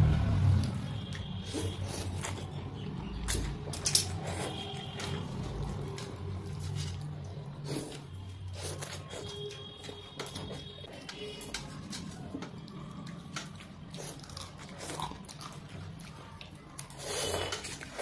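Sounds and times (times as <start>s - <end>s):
people slurping and chewing noodles: 0.6s - 18.0s.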